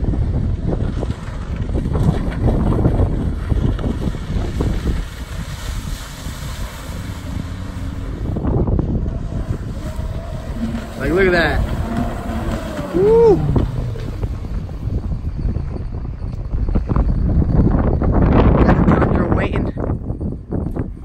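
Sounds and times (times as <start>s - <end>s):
jet ski engine running: 0.0s - 21.0s
wind buffeting microphone: 0.0s - 21.0s.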